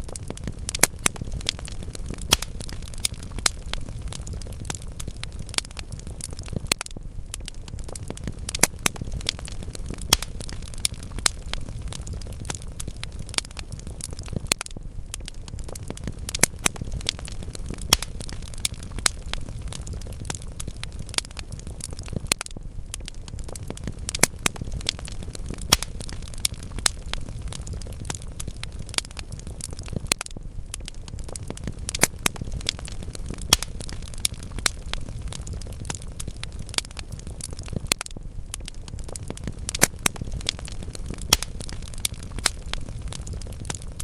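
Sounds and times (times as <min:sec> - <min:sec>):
low rumble of flame: 0:00.0 - 0:44.0
sharp pops of fire: 0:00.0 - 0:44.0
wood fire crackling: 0:00.0 - 0:44.0.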